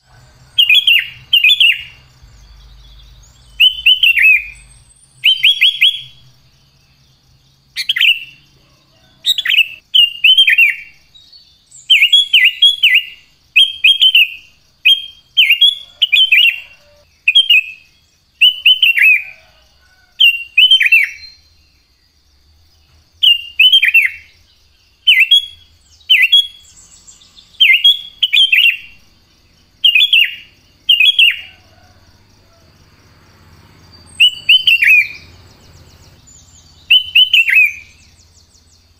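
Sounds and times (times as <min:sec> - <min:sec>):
bulbul singing: 0:00.0 - 0:19.6, 0:20.2 - 0:21.8, 0:22.8 - 0:38.9.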